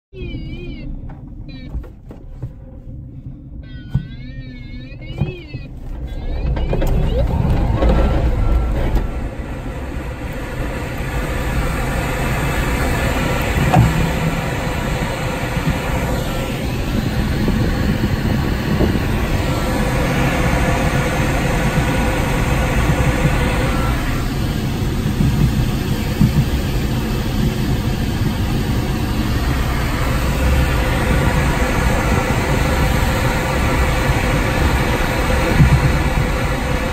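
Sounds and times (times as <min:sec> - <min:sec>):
air rushing around cockpit: 0:00.2 - 0:36.9.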